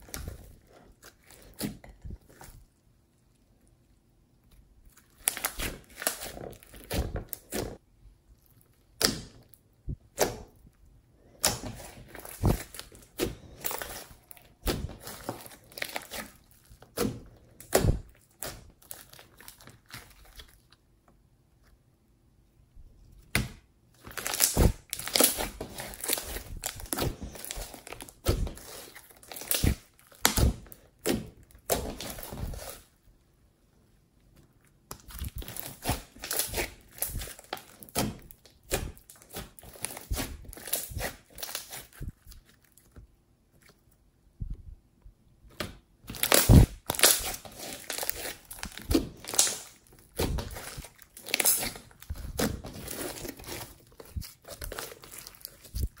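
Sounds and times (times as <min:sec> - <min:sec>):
slime squishing and crackling: 0:00.0 - 0:20.9, 0:23.2 - 0:33.1, 0:34.5 - 0:43.9, 0:45.5 - 0:56.0.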